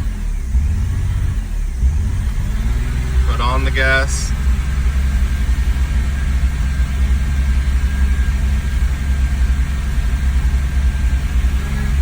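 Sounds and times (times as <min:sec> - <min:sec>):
car engine running unevenly: 0:00.0 - 0:12.0.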